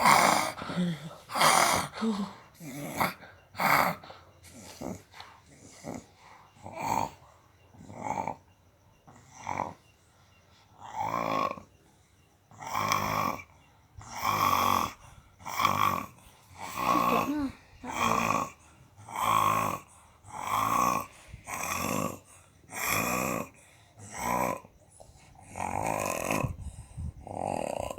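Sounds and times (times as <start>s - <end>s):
child snoring: 0.0s - 8.5s, 9.1s - 9.8s, 10.8s - 11.7s, 12.5s - 27.9s.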